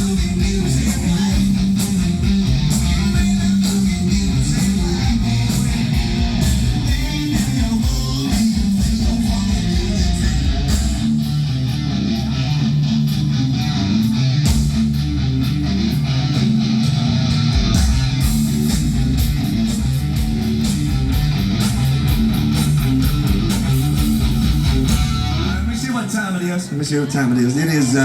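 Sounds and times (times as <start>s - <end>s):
bass line: 0.0s - 26.3s
drums: 0.0s - 26.6s
electric guitar: 0.0s - 28.0s.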